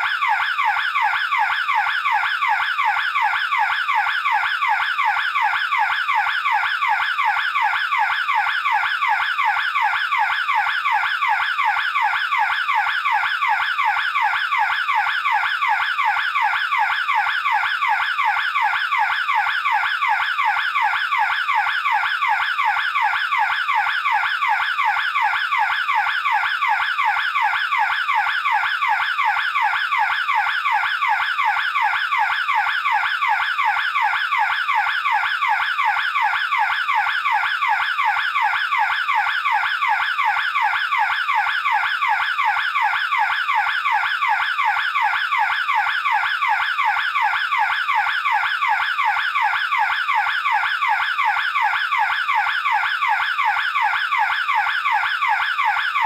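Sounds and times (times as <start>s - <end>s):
burglar alarm siren warbling: 0.0s - 56.0s.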